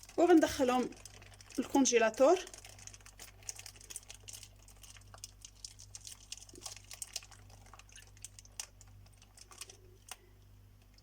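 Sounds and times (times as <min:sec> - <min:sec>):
plastic bags clicking and ticking: 0:00.0 - 0:11.0.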